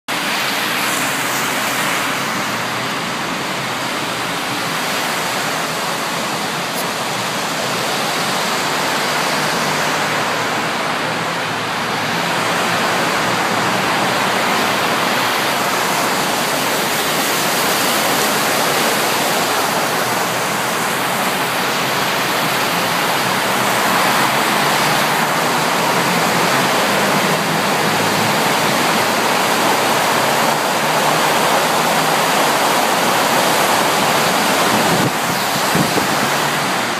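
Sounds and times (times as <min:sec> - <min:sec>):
car driving through floodwater: 0:00.1 - 0:36.9.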